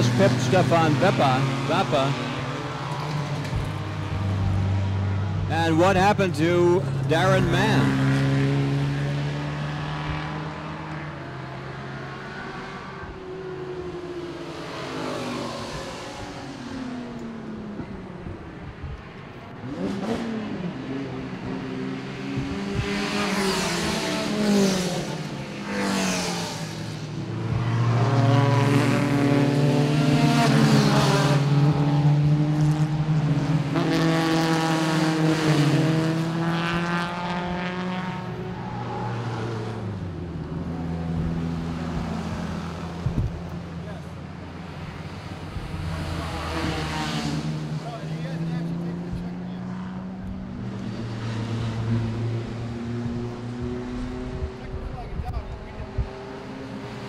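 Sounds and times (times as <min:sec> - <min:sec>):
sports cars passing by: 0:00.0 - 0:57.0.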